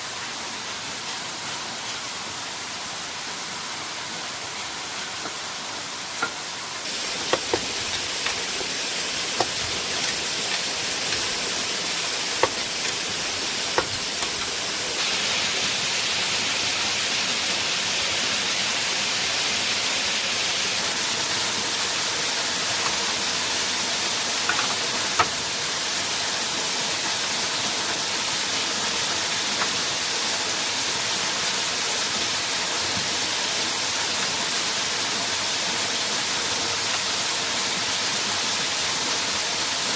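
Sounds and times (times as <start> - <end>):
waterfall rushing: 5.4 - 39.9.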